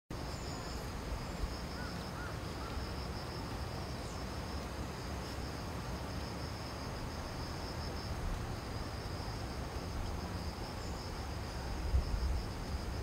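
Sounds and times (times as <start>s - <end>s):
insects trilling: 0.2s - 13.0s.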